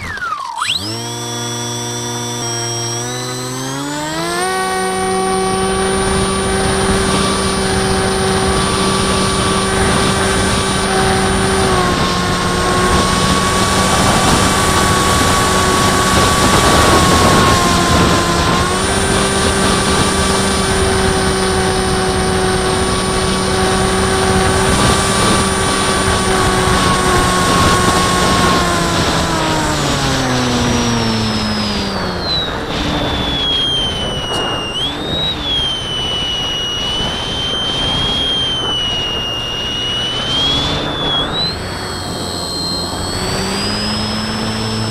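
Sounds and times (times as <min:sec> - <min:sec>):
model plane motor and propeller: 0:00.0 - 0:44.9.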